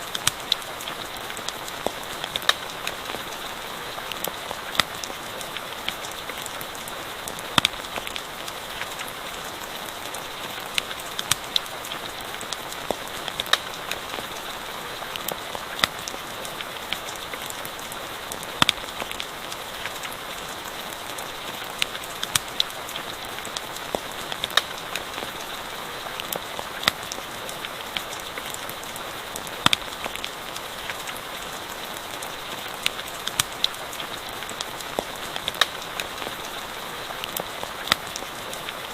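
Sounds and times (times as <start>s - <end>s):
campfire popping and crackling: 0.0s - 38.9s
steady rain falling: 0.0s - 38.9s.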